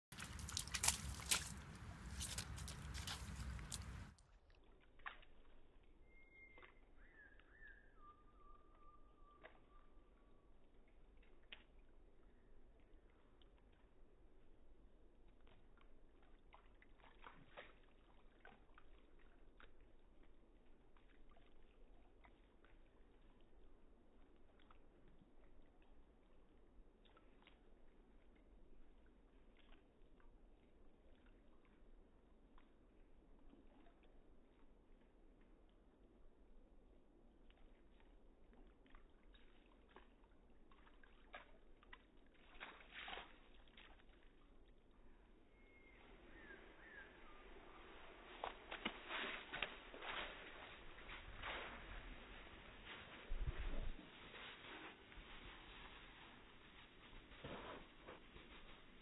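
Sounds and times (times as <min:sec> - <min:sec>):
paws splashing in puddle: 0:00.1 - 0:07.6, 0:09.4 - 0:35.9, 0:37.2 - 0:59.0.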